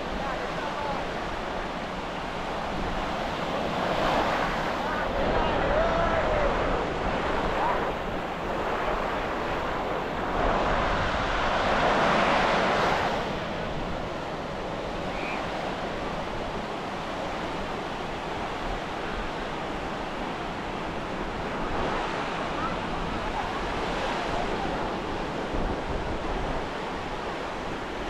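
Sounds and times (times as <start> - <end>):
ocean waves washing up beach: 0.0 - 28.0
wind rumble on microphone: 0.0 - 28.0.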